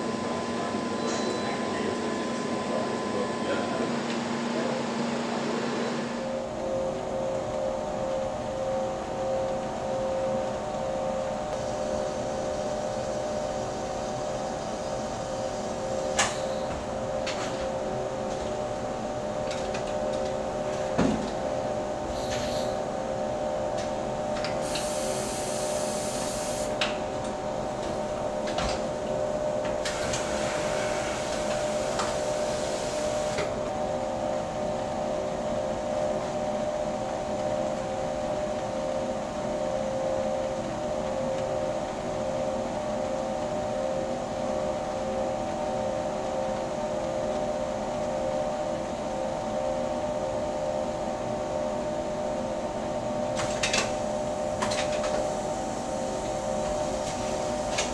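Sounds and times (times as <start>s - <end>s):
machinery humming: 0.0s - 57.9s.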